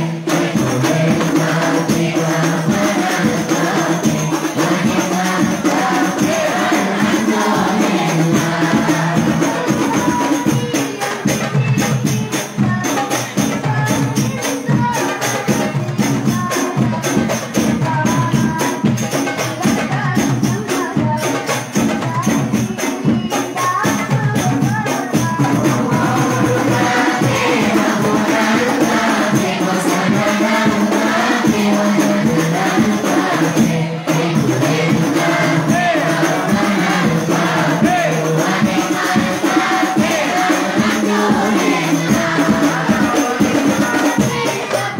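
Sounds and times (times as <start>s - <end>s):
frame drums beaten: 0.0s - 44.9s
men singing together: 0.0s - 44.9s.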